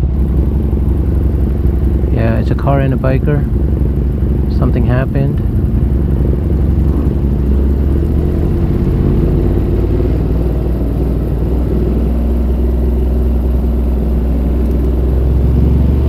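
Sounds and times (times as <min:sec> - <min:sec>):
motorcycle engine humming: 0:00.0 - 0:16.0.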